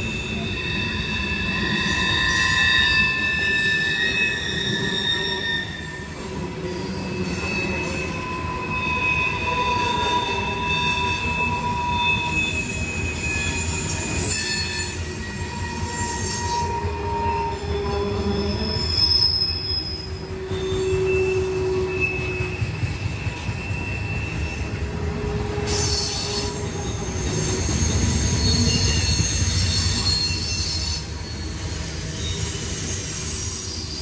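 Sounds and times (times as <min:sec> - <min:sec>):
freight train rumble: 0:00.0 - 0:34.0
train wheels squealing: 0:00.0 - 0:34.0.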